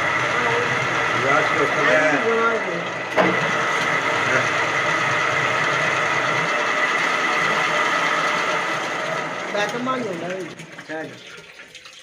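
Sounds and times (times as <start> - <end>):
machinery whining: 0.0 - 10.5.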